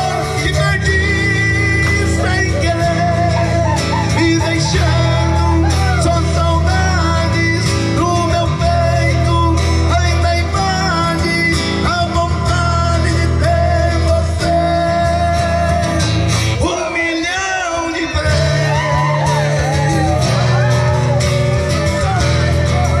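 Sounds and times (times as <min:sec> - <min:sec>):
bass notes: 0:00.0 - 0:16.8, 0:18.0 - 0:23.0
country music: 0:00.0 - 0:23.0
guitar: 0:00.0 - 0:23.0
person singing: 0:00.0 - 0:23.0.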